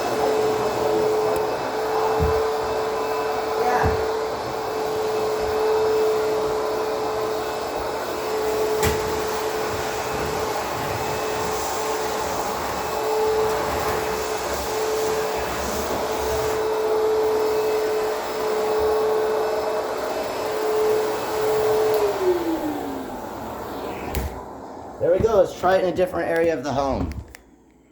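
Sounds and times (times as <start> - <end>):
vacuum cleaner motor whining: 0.0 - 26.0.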